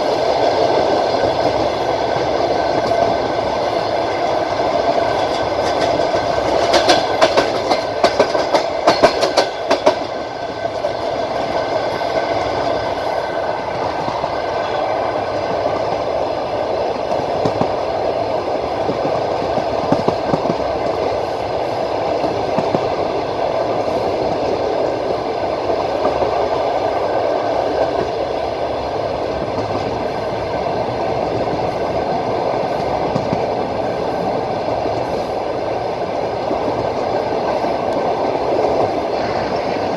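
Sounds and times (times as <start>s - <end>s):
train rumbling: 0.0s - 39.9s
train wheels clacking over rail joints: 0.0s - 39.9s.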